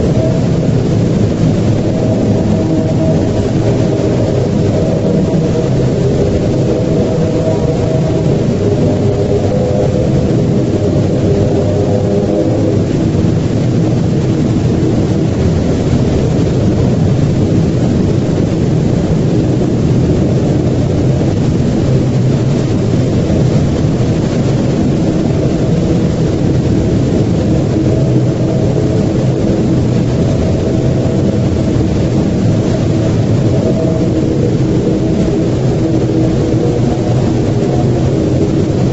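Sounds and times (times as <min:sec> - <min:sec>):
loud low rumble: 0:00.0 - 0:38.9.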